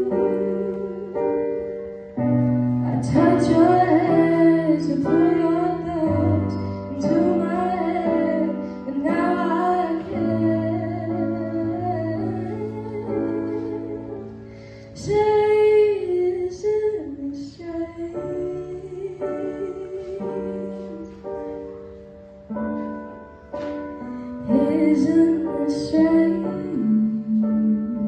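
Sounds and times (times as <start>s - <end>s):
woman singing: 0.0s - 1.7s, 2.8s - 14.4s, 15.0s - 21.6s, 24.4s - 28.0s.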